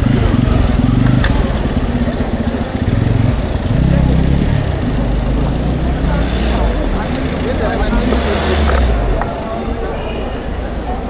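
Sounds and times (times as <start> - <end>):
loud low city street rumble: 0.0 - 11.0.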